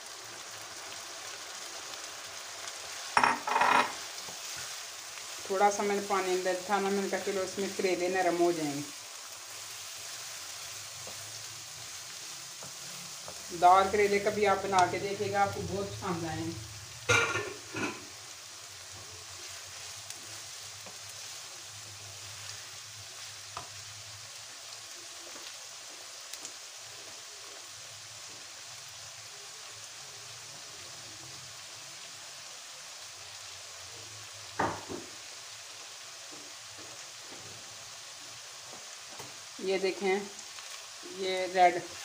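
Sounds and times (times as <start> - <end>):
food sizzling in oil: 0.0 - 42.0.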